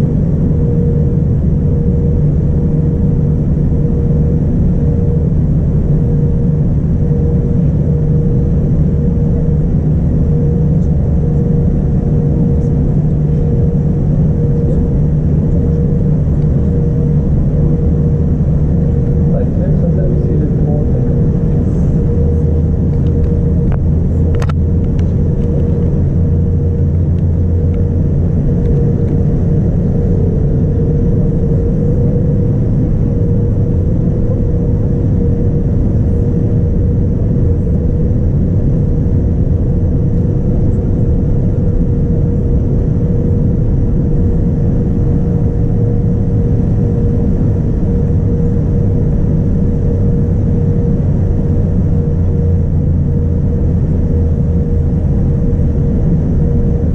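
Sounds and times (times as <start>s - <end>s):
aircraft cabin engine rumble: 0.0s - 56.9s
constant hum: 0.0s - 56.9s.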